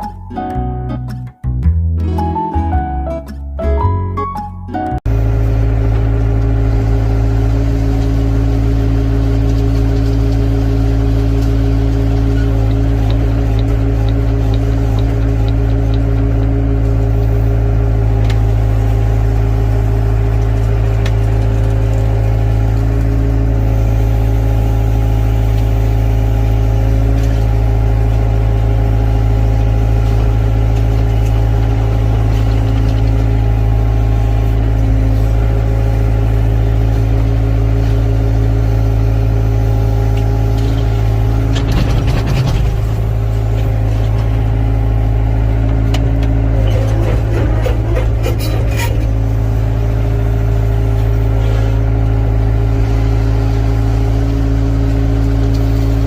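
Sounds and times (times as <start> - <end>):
diesel engine droning: 1.6 - 56.0.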